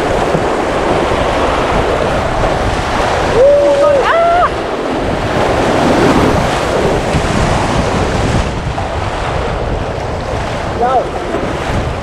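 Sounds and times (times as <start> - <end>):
rushing whitewater: 0.0 - 12.0
wind buffeting microphone: 0.0 - 12.0.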